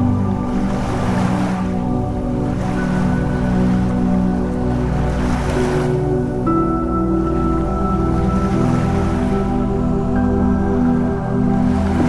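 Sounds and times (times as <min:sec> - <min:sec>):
ocean waves washing onto beach: 0:00.0 - 0:12.0
slow ambient music: 0:00.0 - 0:12.0.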